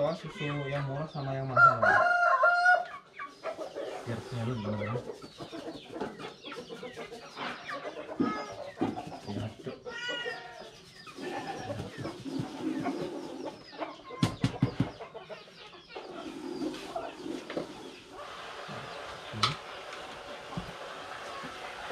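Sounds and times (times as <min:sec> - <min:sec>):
chickens clucking: 0:00.0 - 0:21.9.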